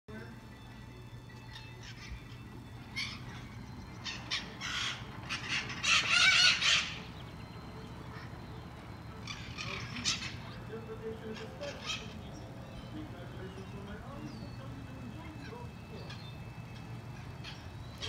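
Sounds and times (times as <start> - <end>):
parrots screeching: 1.5 - 18.0.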